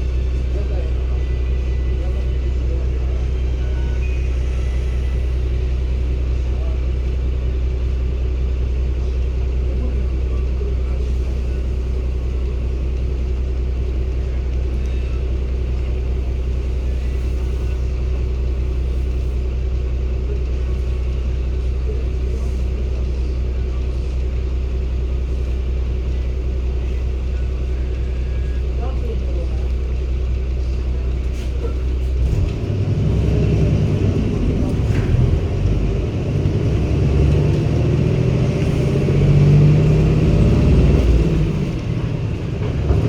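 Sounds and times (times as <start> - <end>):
bus diesel engine drone: 0.0 - 43.0.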